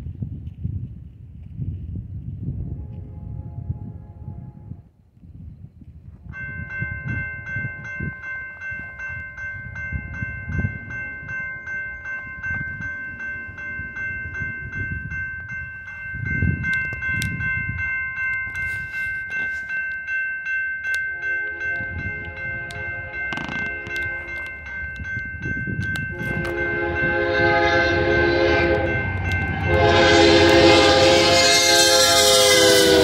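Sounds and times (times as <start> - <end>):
wind rumbling on microphone: 0.0 - 19.7, 21.5 - 33.0
crossing warning bell ringing: 6.3 - 33.0.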